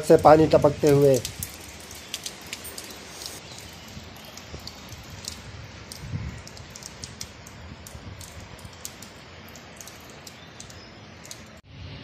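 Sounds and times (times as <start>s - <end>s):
water dripping from roof: 0.0s - 11.7s
rain hiss: 0.0s - 12.0s.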